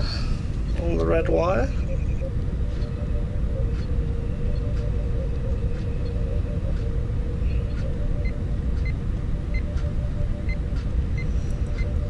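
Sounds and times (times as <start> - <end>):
low rumble with hum: 0.0 - 12.0.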